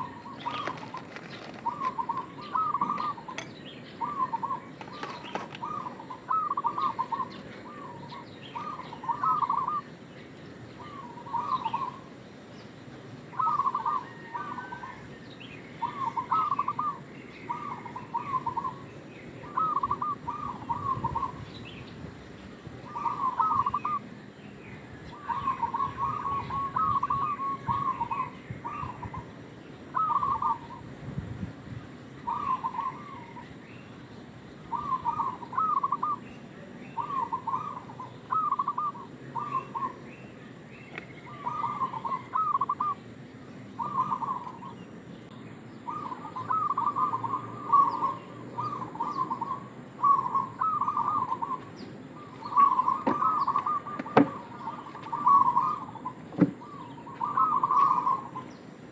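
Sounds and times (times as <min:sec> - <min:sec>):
dove cooing in staccato phrases: 0:00.0 - 0:10.1, 0:10.7 - 0:12.4, 0:13.2 - 0:21.5, 0:22.8 - 0:24.2, 0:25.1 - 0:31.0, 0:32.2 - 0:33.6, 0:34.7 - 0:36.3, 0:37.0 - 0:43.1, 0:43.8 - 0:45.0, 0:45.8 - 0:58.9.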